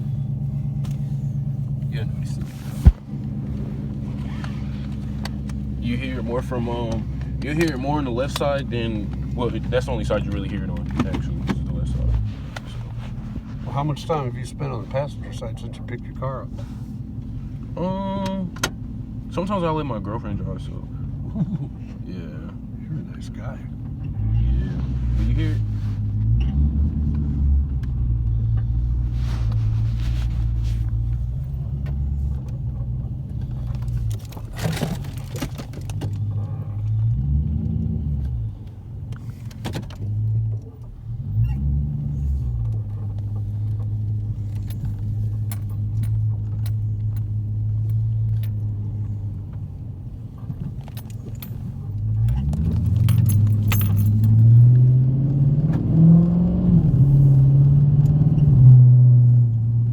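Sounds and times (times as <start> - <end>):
interior clicks and rattles: 0.0 - 58.8
car engine revving: 0.0 - 59.9.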